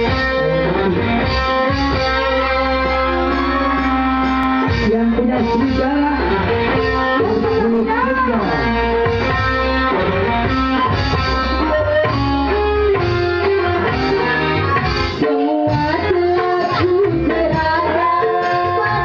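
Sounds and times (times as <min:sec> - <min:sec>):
bass line: 0:00.0 - 0:19.0
electric guitar band music: 0:00.0 - 0:19.0.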